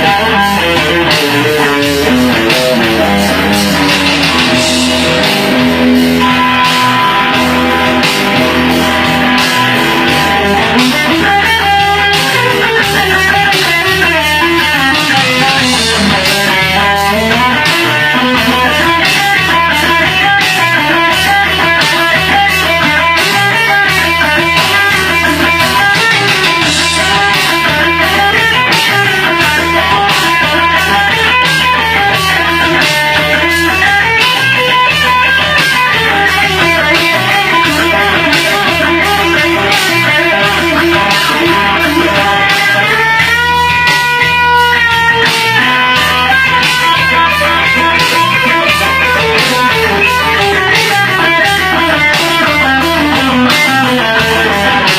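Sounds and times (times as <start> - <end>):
electric guitar solo: 0.0 - 54.9
rock backing track: 0.0 - 54.9.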